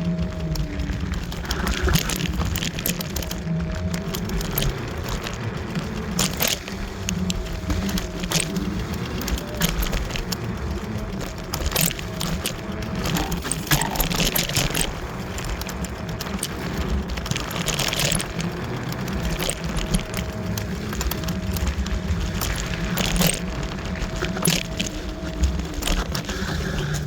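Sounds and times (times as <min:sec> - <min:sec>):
faint electric motor whine: 0:00.0 - 0:27.0
scooter rattling over stones: 0:00.0 - 0:27.0
steady rumble: 0:00.0 - 0:27.0.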